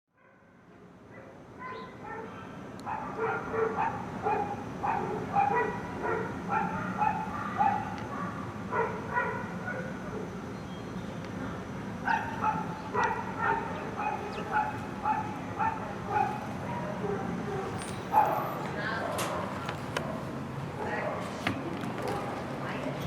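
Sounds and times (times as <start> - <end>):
dogs barking and yipping: 1.2 - 10.3, 12.0 - 21.4.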